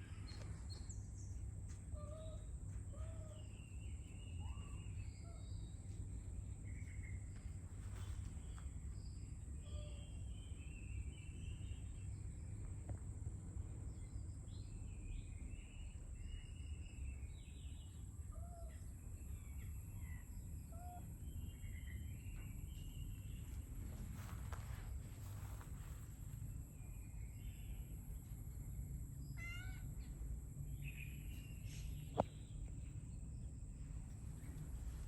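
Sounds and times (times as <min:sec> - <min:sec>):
constant high whine: 0:00.0 - 0:35.0
low outdoor rumble: 0:00.0 - 0:35.0.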